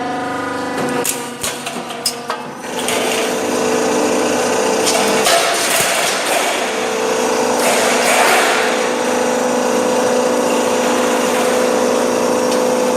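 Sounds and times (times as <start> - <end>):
roll forming machine running: 0.0 - 12.9.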